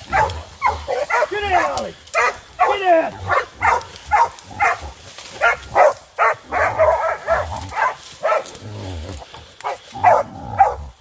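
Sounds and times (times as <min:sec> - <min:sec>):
dogs barking: 0:00.0 - 0:08.6, 0:09.6 - 0:11.0.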